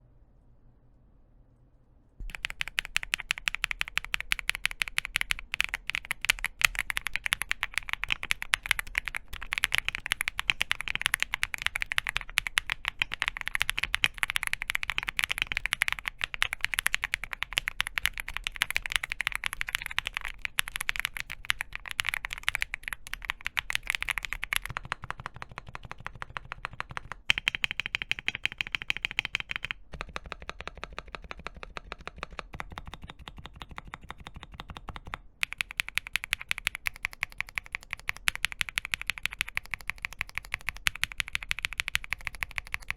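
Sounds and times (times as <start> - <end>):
fast typing on mechanical keyboard: 2.2 - 42.9.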